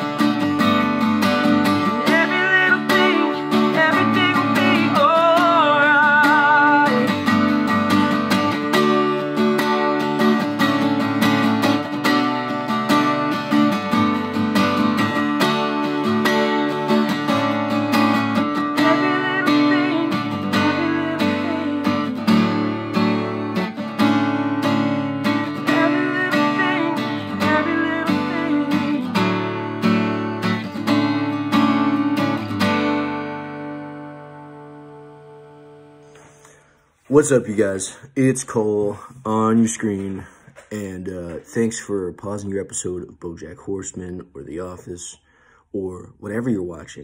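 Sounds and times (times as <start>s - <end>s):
acoustic guitar strumming: 0.0s - 42.1s.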